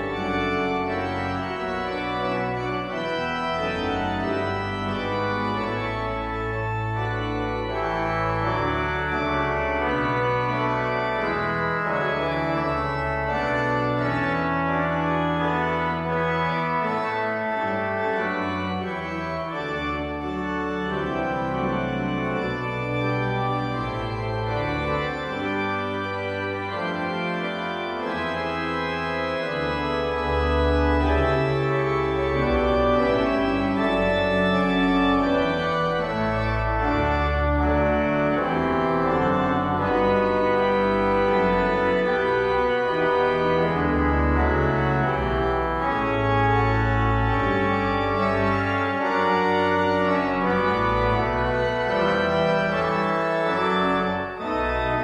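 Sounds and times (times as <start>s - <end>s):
deep organ pedal bass notes: 0.0s - 55.0s
organ chords: 0.0s - 55.0s.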